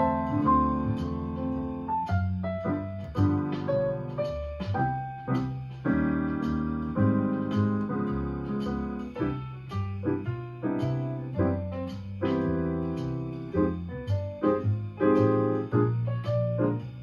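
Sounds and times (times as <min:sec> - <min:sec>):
bass line: 0:00.0 - 0:17.0
jazz piano: 0:00.0 - 0:17.0.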